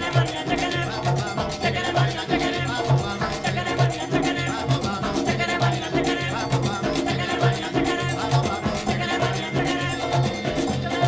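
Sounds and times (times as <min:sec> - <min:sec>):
live latin band playing: 0:00.0 - 0:11.0
person singing: 0:00.0 - 0:11.0.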